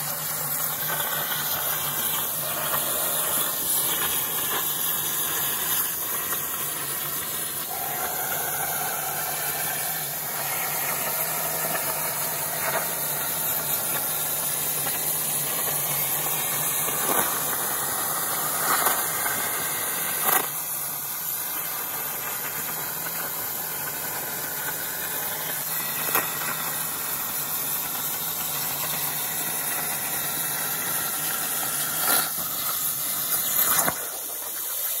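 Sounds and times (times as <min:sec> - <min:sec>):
plasma cutter arc hissing: 0:00.0 - 0:35.0.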